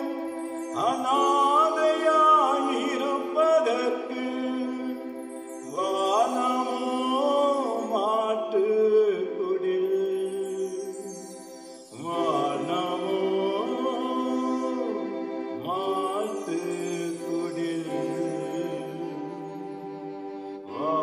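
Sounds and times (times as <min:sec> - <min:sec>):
man singing into a microphone: 0:00.0 - 0:11.2, 0:11.9 - 0:19.8, 0:20.7 - 0:21.0.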